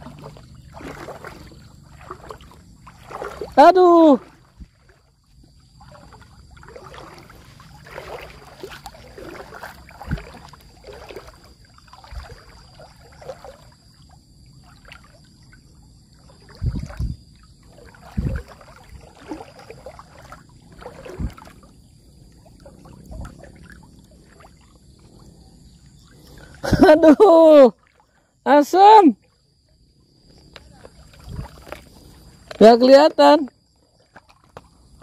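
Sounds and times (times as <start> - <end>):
water lapping and sloshing: 0.0 - 35.0.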